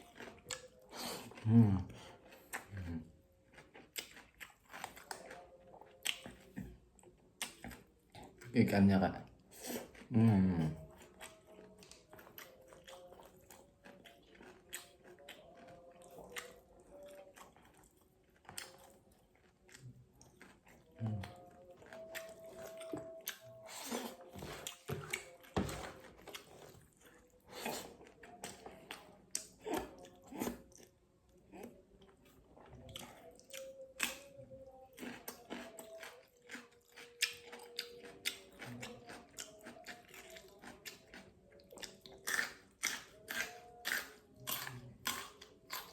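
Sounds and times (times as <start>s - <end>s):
person chewing and lip smacking: 0.0s - 8.6s, 9.4s - 45.9s.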